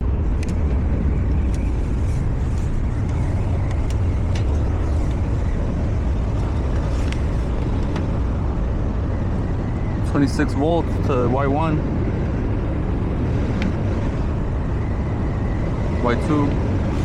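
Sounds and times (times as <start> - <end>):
blower fan rumbling: 0.0 - 17.0.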